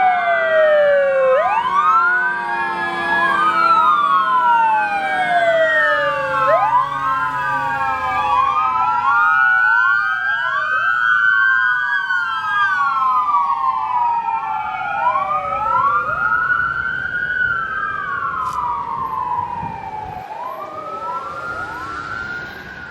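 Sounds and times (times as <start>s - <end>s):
police and fire sirens wailing: 0.0s - 22.9s.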